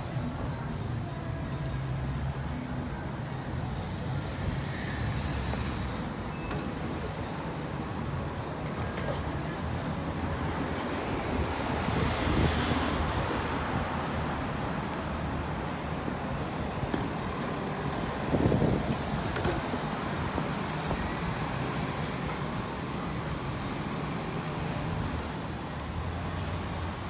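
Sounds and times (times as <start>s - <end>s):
city street traffic rumble: 0.0s - 27.0s.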